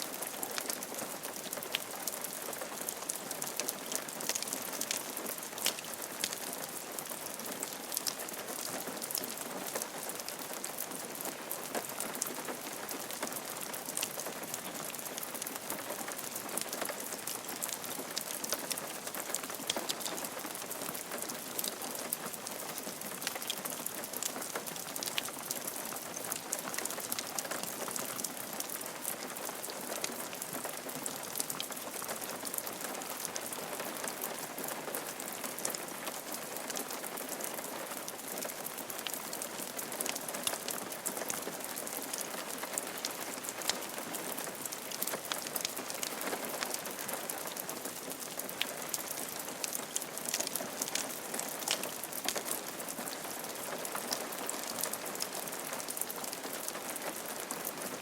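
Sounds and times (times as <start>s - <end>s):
rain on a roof: 0.0s - 58.0s.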